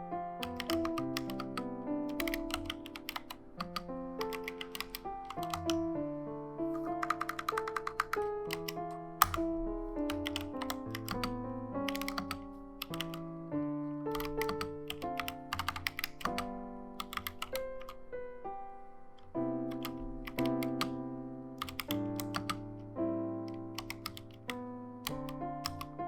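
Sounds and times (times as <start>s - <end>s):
piano music: 0.0s - 26.0s
mechanical keyboard typing clicks: 0.4s - 5.9s, 6.7s - 13.3s, 14.1s - 18.0s, 19.6s - 21.0s, 21.6s - 22.8s, 23.4s - 26.0s.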